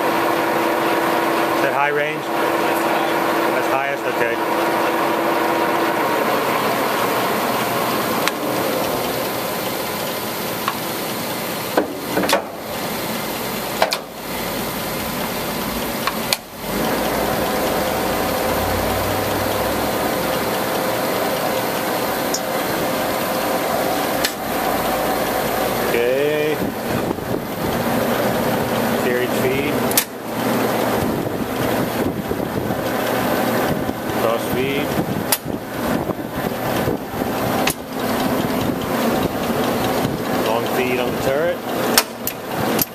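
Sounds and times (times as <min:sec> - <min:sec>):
lathe headstock running: 0:00.0 - 0:42.9.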